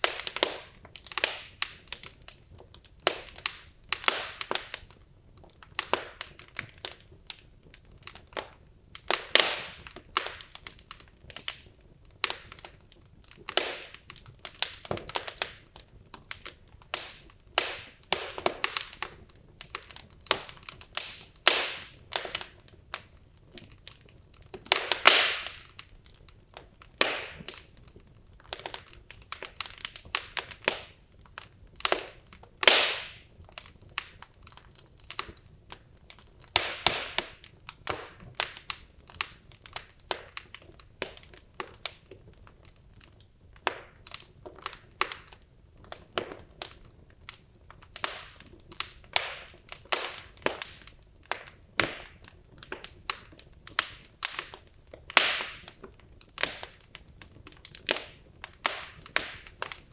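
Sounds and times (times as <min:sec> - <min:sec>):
logs crackling in fireplace: 0:00.0 - 0:59.9.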